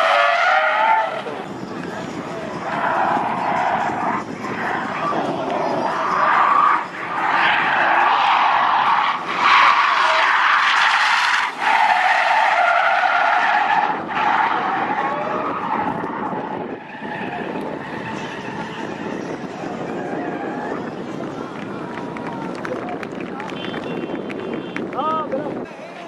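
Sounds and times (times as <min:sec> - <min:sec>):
car tyres squealing: 0:00.0 - 0:22.8.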